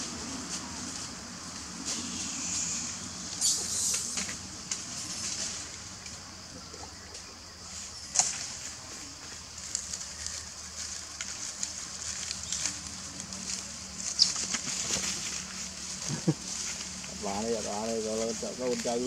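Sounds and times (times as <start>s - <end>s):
dry leaves crackling underfoot: 0.0s - 19.0s
steady high hiss: 0.0s - 19.0s.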